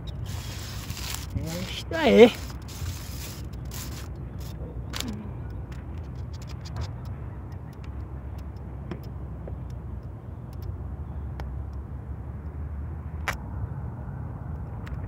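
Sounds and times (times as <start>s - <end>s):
sharp clicks and ticks: 0.0s - 12.6s
steady low rumble: 0.0s - 15.0s.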